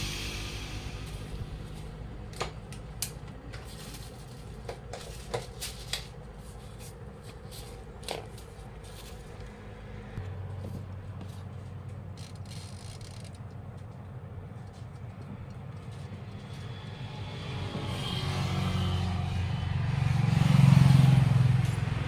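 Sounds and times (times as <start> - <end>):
low steady hum: 0.0 - 20.1.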